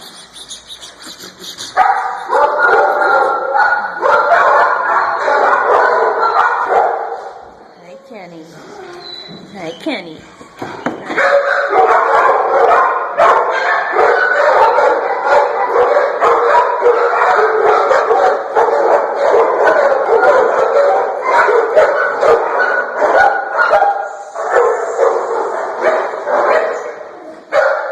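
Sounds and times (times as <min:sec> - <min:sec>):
dogs barking and yipping: 0:00.1 - 0:07.6, 0:11.1 - 0:27.9.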